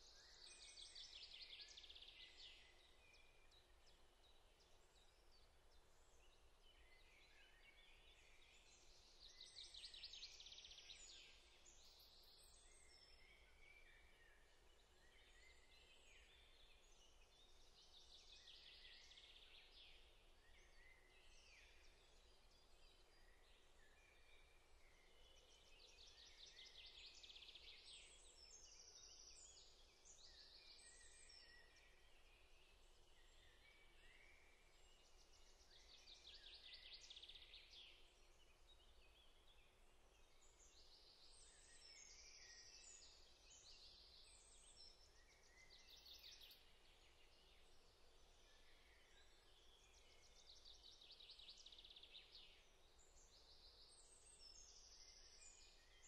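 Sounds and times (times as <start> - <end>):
low steady background noise: 0.0 - 56.0.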